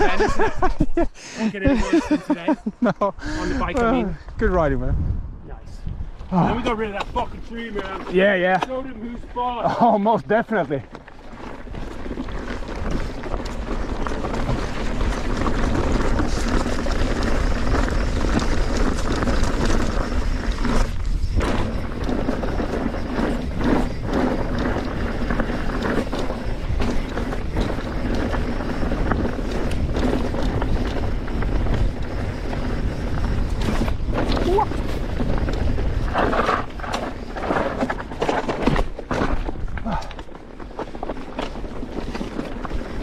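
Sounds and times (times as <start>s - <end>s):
bike rattling: 0.0s - 1.0s, 1.6s - 4.9s, 5.7s - 43.0s
wind rumble on microphone: 2.7s - 8.1s, 11.0s - 43.0s
tyres crunching over gravel: 6.4s - 43.0s.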